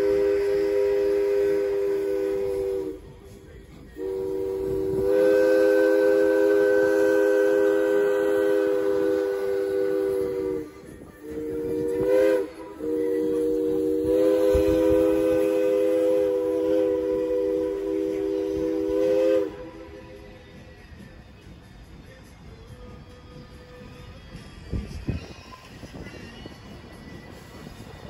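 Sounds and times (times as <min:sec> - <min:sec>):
steam locomotive chime whistle: 0:00.0 - 0:28.0.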